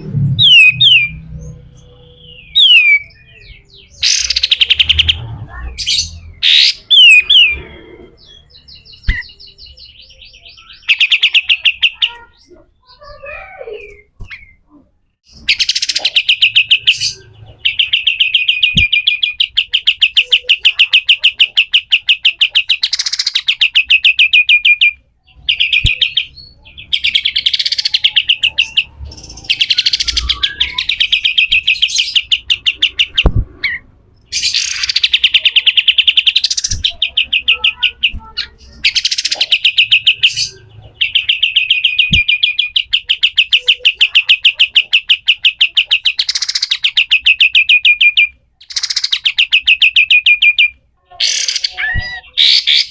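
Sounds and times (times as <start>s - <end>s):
bird singing rattling trills: 0.4s - 14.6s, 15.2s - 50.7s.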